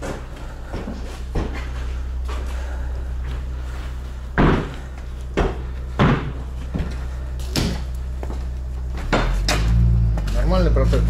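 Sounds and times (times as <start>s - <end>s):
footsteps on plank floor: 0.0s - 11.0s
low hum: 0.0s - 11.0s.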